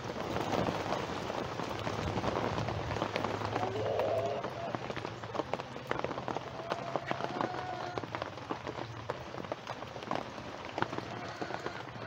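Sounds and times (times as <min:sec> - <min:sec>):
rain dripping on ground: 0:00.0 - 0:12.0.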